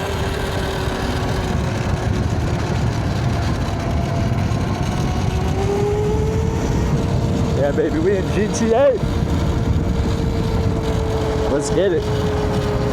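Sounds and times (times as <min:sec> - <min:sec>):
electric motor whine: 0:00.0 - 0:12.9
wind and tyre rumble: 0:00.0 - 0:12.9.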